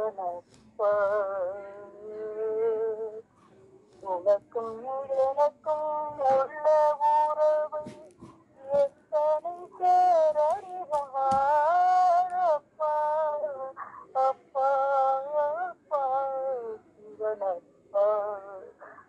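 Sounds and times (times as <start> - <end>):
person singing unaccompanied: 0.0 - 19.0.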